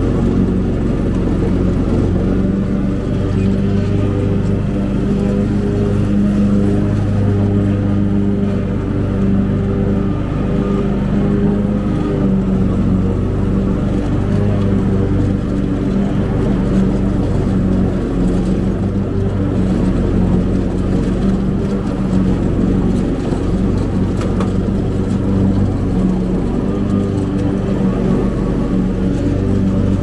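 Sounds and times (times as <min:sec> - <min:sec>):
riding mower engine: 0:00.0 - 0:30.0.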